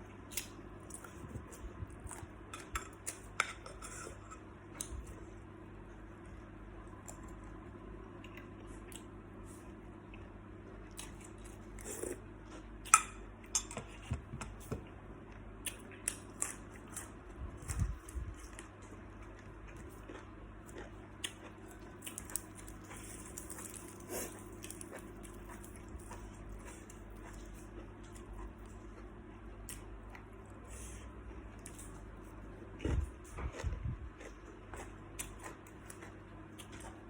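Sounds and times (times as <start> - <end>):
chewing and crunching shrimp: 0.0 - 37.0
faint low hum: 0.0 - 37.0.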